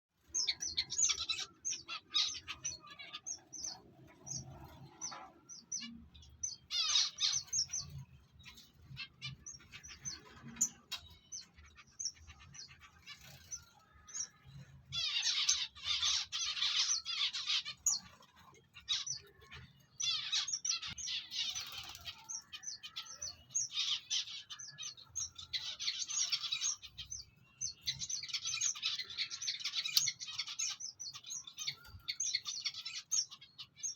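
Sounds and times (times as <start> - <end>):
small cage birds chirping: 0.1 - 33.9.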